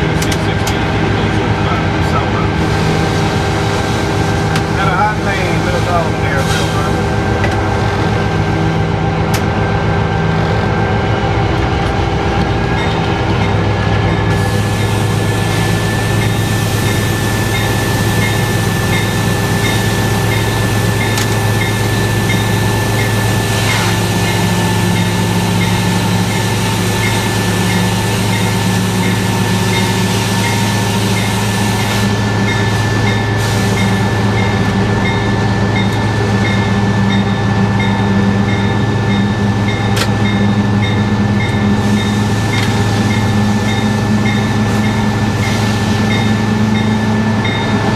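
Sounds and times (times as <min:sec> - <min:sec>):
locomotive engine drone: 0:00.0 - 0:47.9.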